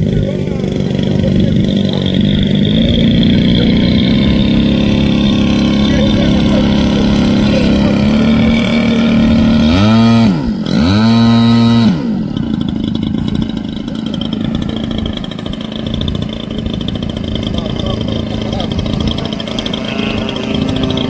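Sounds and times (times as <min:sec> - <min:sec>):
model aeroplane engine: 0:00.0 - 0:21.0.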